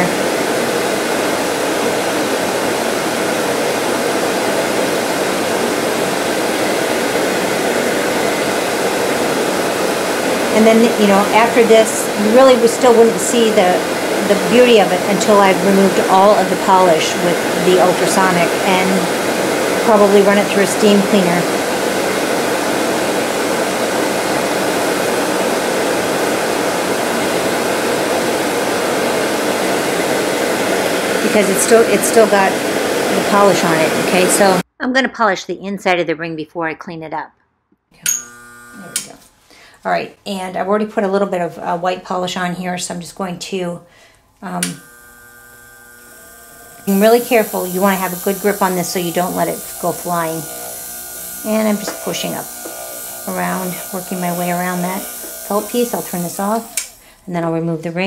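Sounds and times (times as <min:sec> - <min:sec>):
dust collector fan running: 0:00.0 - 0:34.6, 0:38.2 - 0:39.4, 0:44.4 - 0:58.0
lathe polishing buff rushing: 0:00.0 - 0:34.6, 0:38.2 - 0:39.1, 0:44.7 - 0:57.0.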